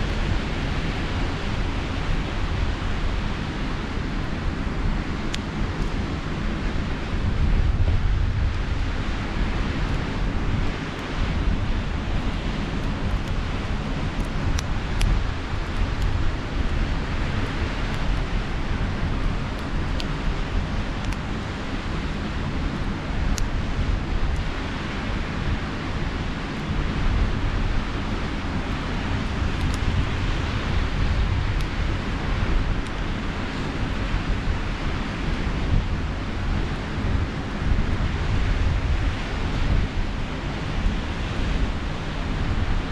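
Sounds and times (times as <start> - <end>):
campfire crackles: 0.0 - 42.9
sea surf washing: 0.0 - 42.9
wind buffeting microphone: 0.0 - 42.9.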